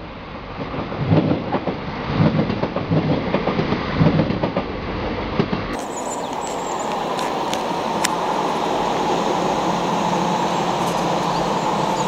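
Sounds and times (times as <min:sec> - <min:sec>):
train wheels clattering over rails: 0:00.5 - 0:12.0.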